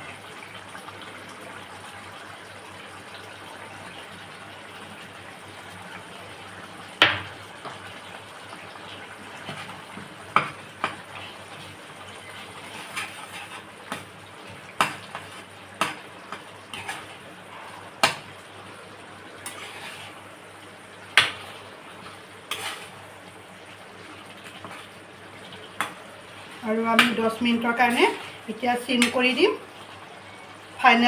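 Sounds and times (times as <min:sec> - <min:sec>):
curry bubbling in a pot: 0:00.0 - 0:31.0.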